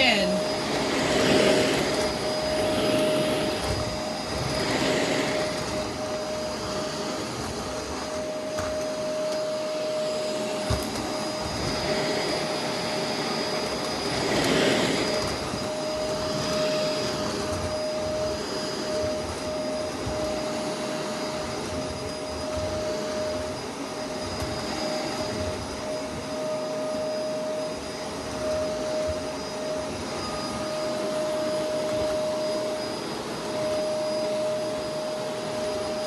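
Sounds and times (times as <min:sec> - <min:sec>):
vacuum cleaners running: 0:00.0 - 0:36.0.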